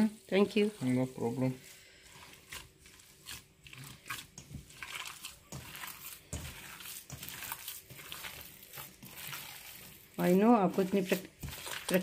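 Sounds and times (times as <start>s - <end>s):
hands squishing meat mince: 0.6s - 12.0s.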